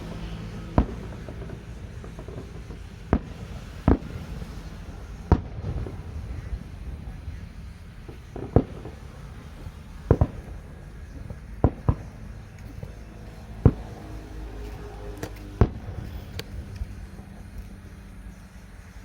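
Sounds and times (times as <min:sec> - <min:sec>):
fireworks banging: 0:00.0 - 0:19.0
low steady rumble: 0:00.0 - 0:19.0.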